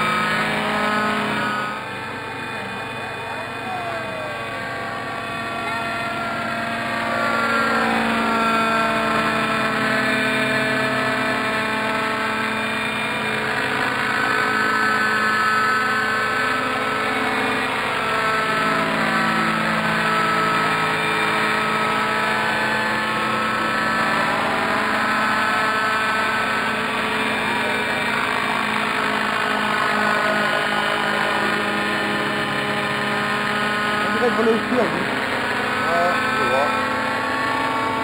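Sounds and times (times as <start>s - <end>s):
model helicopter rotor drone: 0.0s - 38.0s.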